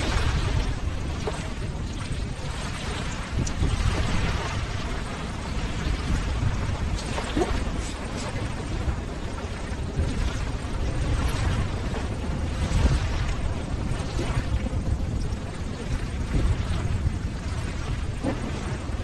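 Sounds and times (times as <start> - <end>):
breaking ocean waves: 0.0 - 19.0.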